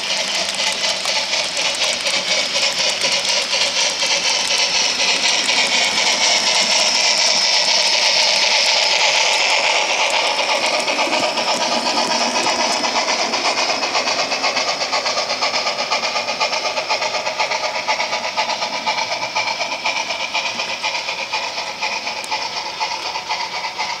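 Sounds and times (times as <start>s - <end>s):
model train rolling on track: 0.0s - 24.0s.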